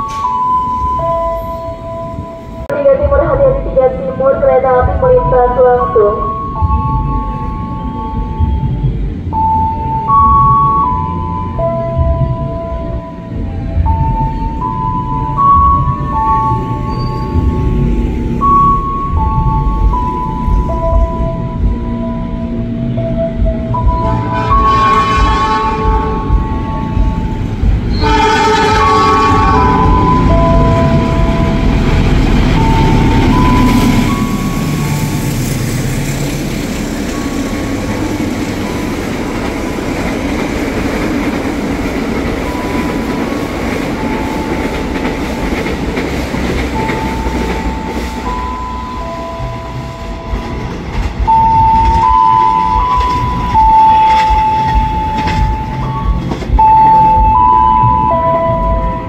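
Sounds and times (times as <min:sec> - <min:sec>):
locomotive engine rumble: 0:00.0 - 0:59.0
train wheels on rails: 0:04.8 - 0:59.0.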